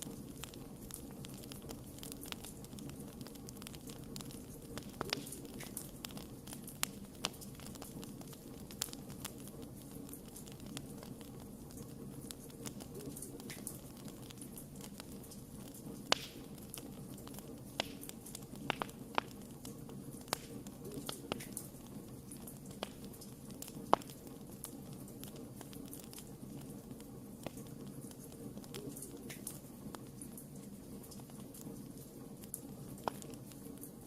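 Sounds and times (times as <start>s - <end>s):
fire rumbling: 0.0s - 34.0s
wood fire crackling: 0.0s - 34.0s.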